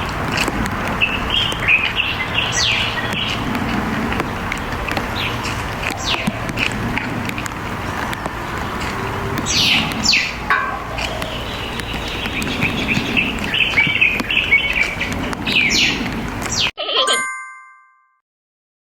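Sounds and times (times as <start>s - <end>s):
birds calling: 0.0s - 16.8s.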